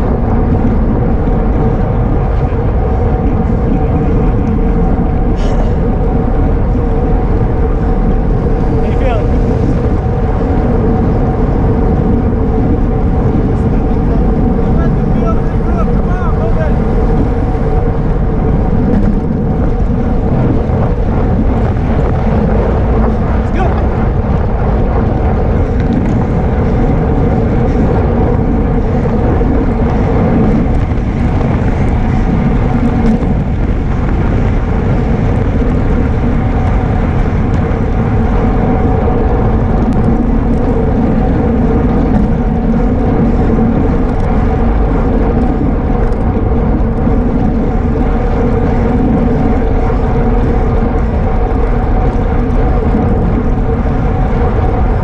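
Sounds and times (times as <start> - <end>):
low steady hum: 0.0 - 55.0
road noise: 0.0 - 55.0
wind rushing: 0.0 - 55.0.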